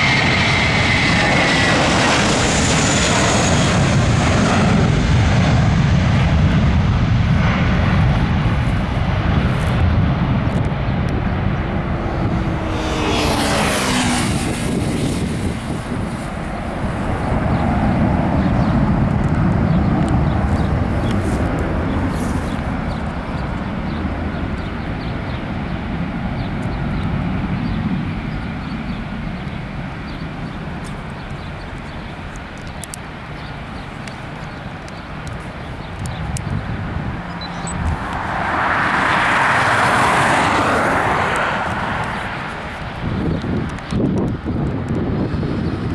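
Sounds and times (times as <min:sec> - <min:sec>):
jet airliner passing: 0:00.0 - 0:45.9.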